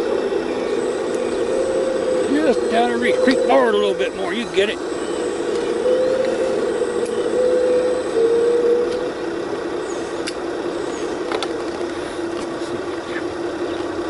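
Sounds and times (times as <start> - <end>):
excavator engine and hydraulics: 0.0 - 14.0.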